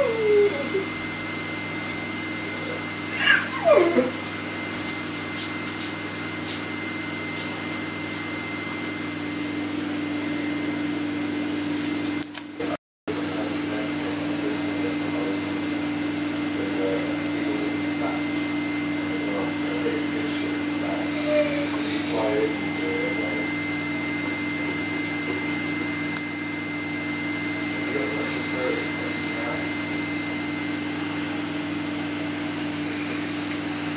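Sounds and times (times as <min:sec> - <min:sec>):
electrical machine hum: 0:00.0 - 0:33.9.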